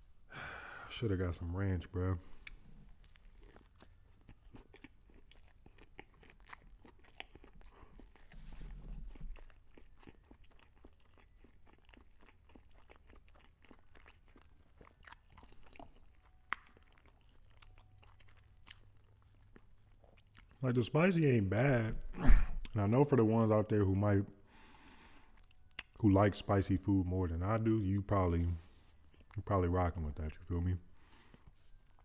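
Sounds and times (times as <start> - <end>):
chewing with soft crunches: 1.2 - 32.0.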